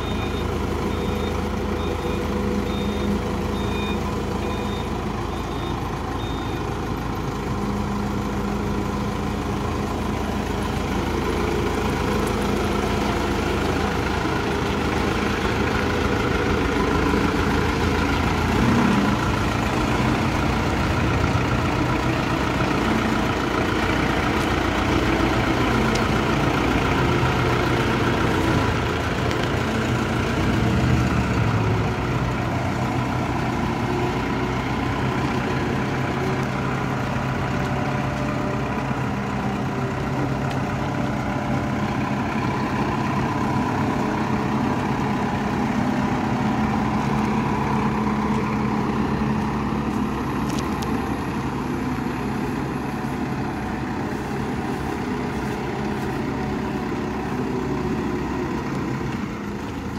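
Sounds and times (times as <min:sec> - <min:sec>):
forklift diesel engine running: 0:00.0 - 0:59.9.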